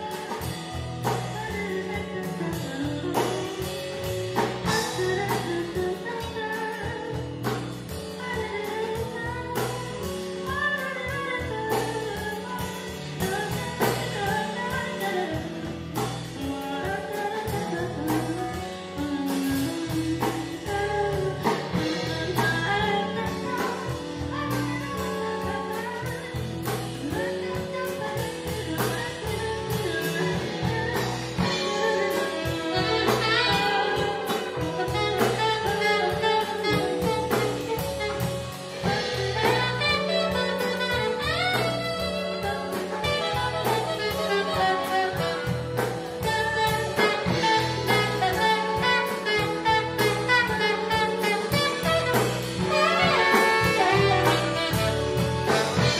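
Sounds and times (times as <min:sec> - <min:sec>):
drum kit: 0:00.0 - 0:55.9
electric guitars: 0:00.0 - 0:55.9
person singing into a microphone: 0:00.0 - 0:55.9
saxophones: 0:00.0 - 0:55.9.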